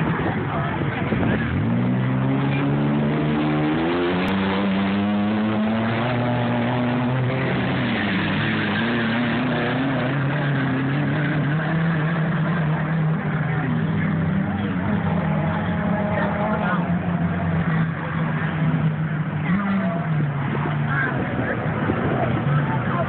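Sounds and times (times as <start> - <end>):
engine revving: 1.1 - 23.0.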